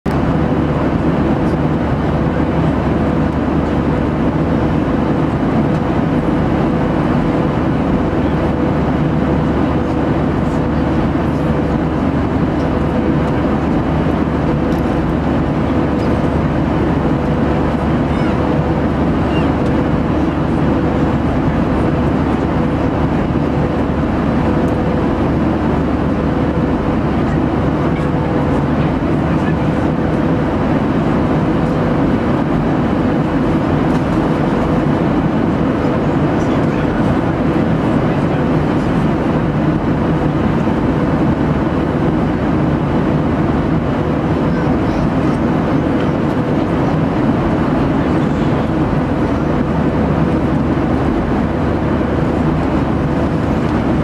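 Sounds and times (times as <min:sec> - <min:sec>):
held hum: 0:00.1 - 0:54.0
jet engines and airflow drone: 0:00.1 - 0:54.0.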